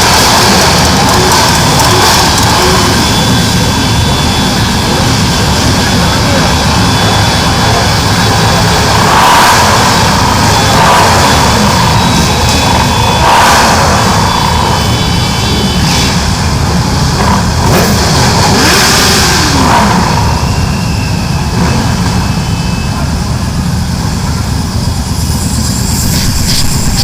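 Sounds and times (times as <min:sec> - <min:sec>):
motorcycle engine revving: 0:00.0 - 0:27.0
motorcycle engines rumbling: 0:00.0 - 0:27.0.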